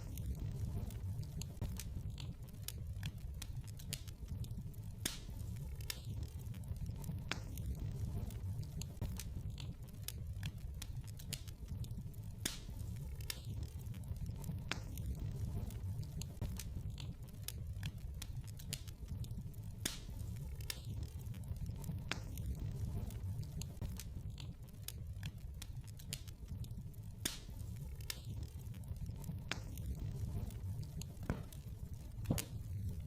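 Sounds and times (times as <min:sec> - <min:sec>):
low rumble of flames: 0:00.0 - 0:33.0
wood fire crackling and snapping: 0:00.0 - 0:33.0.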